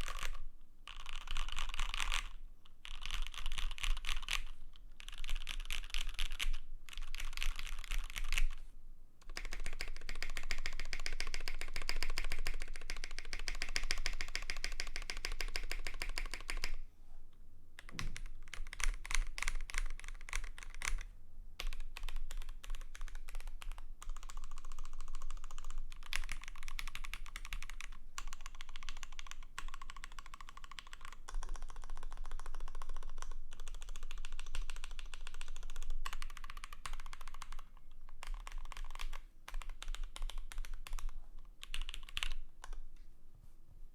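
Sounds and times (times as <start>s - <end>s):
fast mechanical keyboard typing: 0.0s - 8.6s, 9.3s - 16.7s, 17.8s - 21.0s, 21.6s - 42.8s.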